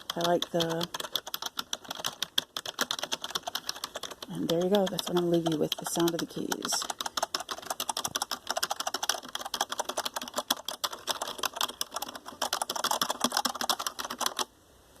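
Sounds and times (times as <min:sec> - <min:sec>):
keyboard key clicks: 0:00.0 - 0:14.4.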